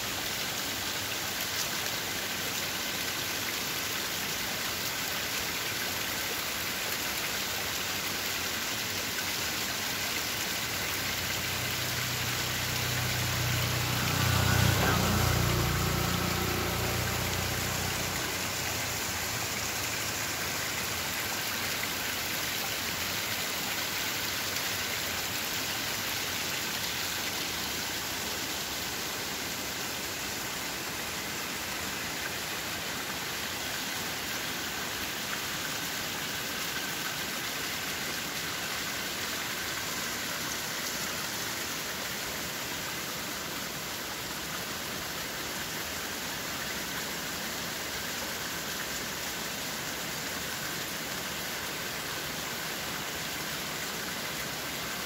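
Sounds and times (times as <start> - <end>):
waterfall splashing on rock: 0.0 - 55.0.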